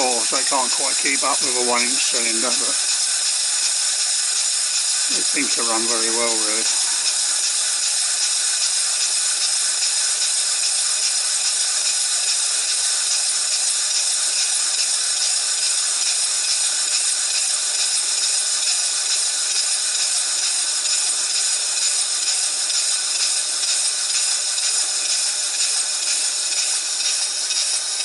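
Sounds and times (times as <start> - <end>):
model steam engine chuffing: 0.0 - 28.0.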